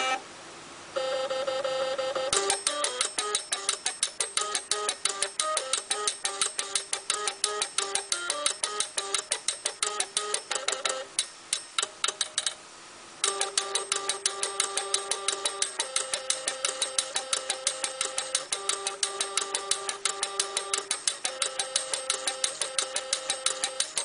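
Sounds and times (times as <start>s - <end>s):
stepper motors playing a tune: 2.3s - 12.5s, 13.2s - 24.0s
fast even ticking: 2.3s - 12.6s, 13.2s - 24.0s.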